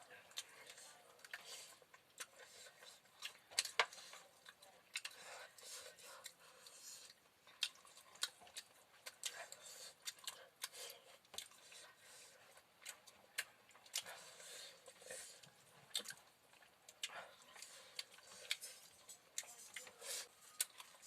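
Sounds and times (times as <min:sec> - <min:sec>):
chewing and mouth noises: 0:00.0 - 0:21.0.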